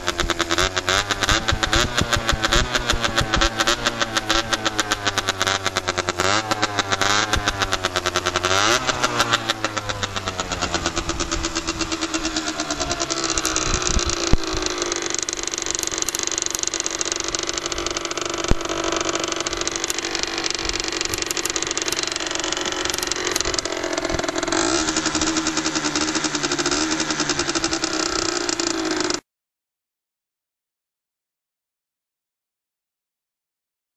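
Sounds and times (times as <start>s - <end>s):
two-stroke engine revving: 0.0s - 29.2s.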